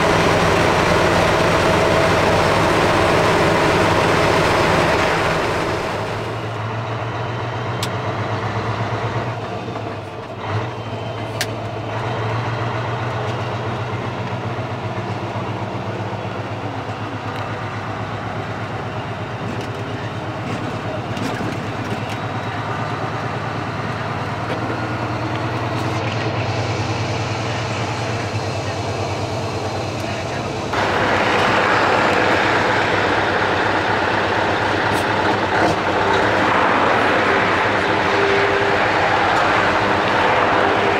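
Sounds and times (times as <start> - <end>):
diesel truck engine hum: 0.0 - 40.9
road and tyre noise: 0.0 - 40.9.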